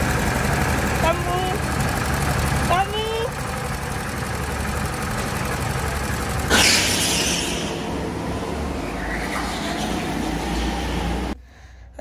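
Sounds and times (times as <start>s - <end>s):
motor vehicle engine rumbling: 0.0s - 11.4s.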